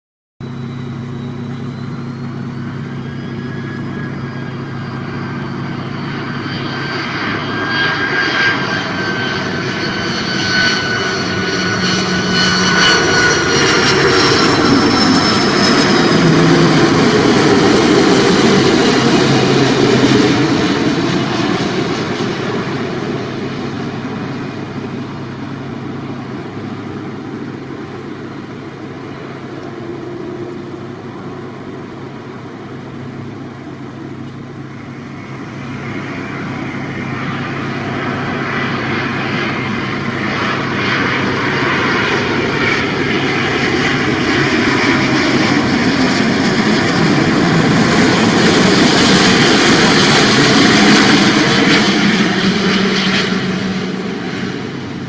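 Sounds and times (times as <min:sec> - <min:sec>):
jet aircraft passing overhead: 0:00.4 - 0:55.0.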